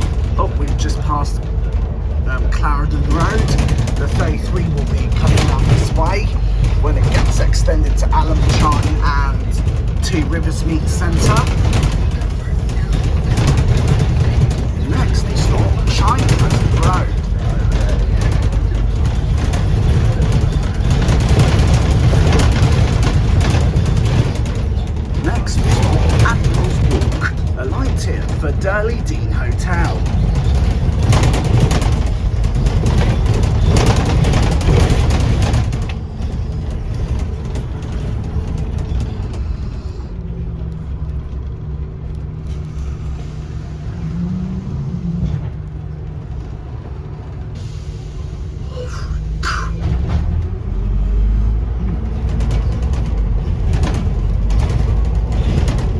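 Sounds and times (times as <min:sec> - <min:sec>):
bus diesel engine running: 0:00.0 - 0:55.9
interior rattles and clicks: 0:00.0 - 0:55.9.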